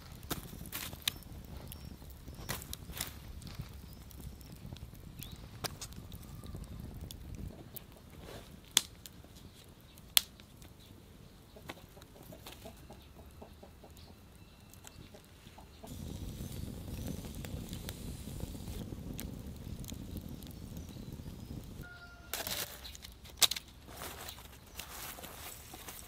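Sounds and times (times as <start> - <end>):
fire pops: 0.0 - 11.0, 13.3 - 26.0
rush of burning flames: 0.0 - 12.7, 13.3 - 26.0
wood fire crackling: 0.0 - 26.0.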